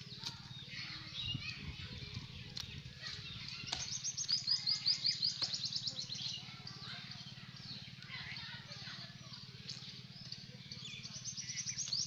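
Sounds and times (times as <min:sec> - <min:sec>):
songbird high chirps: 0:00.0 - 0:12.0.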